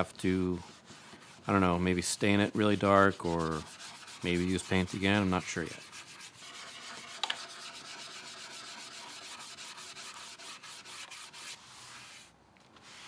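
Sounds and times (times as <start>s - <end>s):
pad scrubbing wood: 0.5s - 13.0s.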